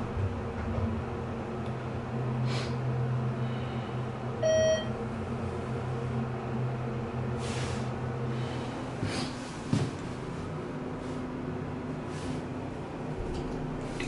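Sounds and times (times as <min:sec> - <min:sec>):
elevator hum: 0:00.0 - 0:14.0.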